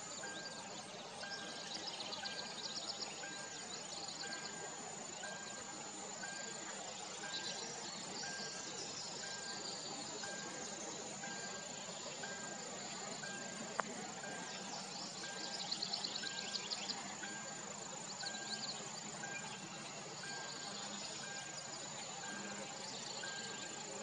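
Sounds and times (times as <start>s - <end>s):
high-pitched insect drone: 0.0s - 24.0s
insect chirring: 0.0s - 24.0s.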